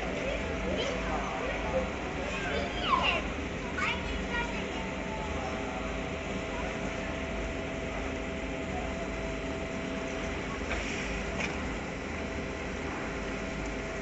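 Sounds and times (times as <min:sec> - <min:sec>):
steam locomotive mechanical hum: 0:00.0 - 0:14.0.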